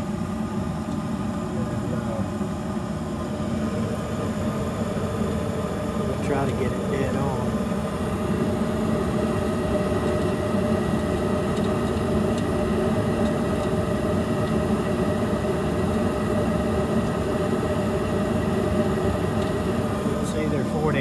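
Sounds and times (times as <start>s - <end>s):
gas furnace humming: 0.0s - 21.0s.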